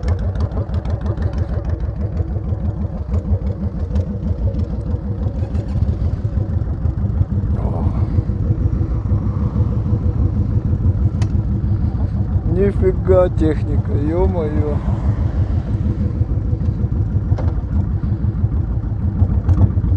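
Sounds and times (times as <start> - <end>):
motorcycle engine rumbling: 0.0 - 19.9.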